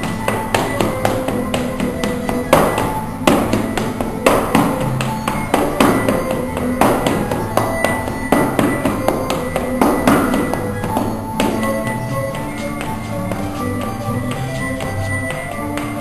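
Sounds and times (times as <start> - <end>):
feet tapping and stomping on floor: 0.0 - 16.0
music playing: 0.0 - 16.0.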